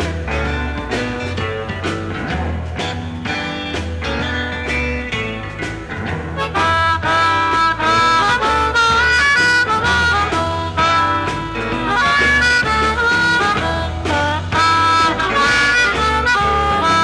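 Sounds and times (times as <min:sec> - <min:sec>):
bass and drum groove: 0:00.0 - 0:17.0
blues harmonica wailing: 0:00.0 - 0:17.0.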